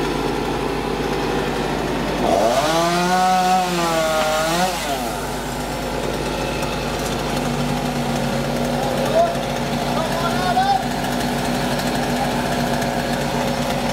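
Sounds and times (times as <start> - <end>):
chainsaw revving: 0.0 - 13.9
steady engine drone: 0.0 - 13.9.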